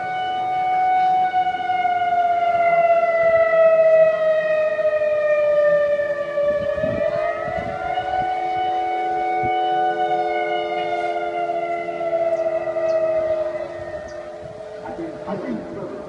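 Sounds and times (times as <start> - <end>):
low steady tones: 0.0 - 16.0
warning siren wailing: 0.0 - 16.0.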